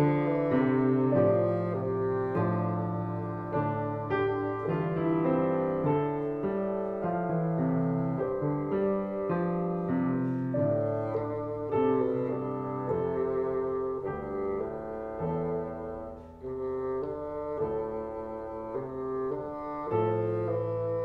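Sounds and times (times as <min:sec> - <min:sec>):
slow instrumental music: 0:00.0 - 0:21.0.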